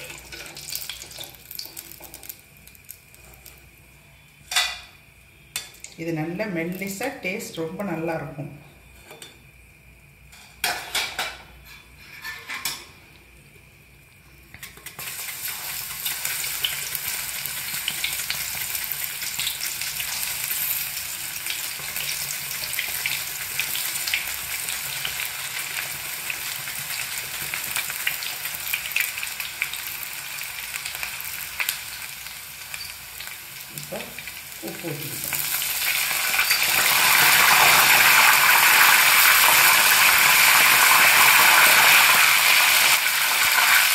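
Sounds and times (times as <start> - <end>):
slices sizzling in hot oil: 0.0 - 7.2, 13.3 - 43.9.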